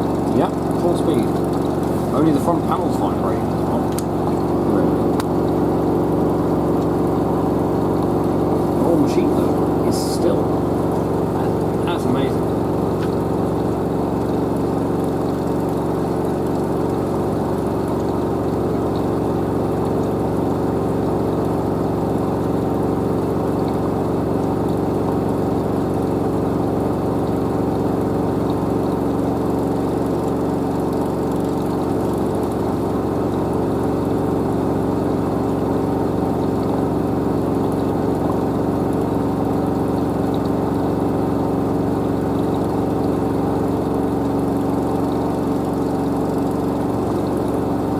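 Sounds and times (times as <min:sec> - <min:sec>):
washer dryer spinning hum: 0:00.0 - 0:47.9.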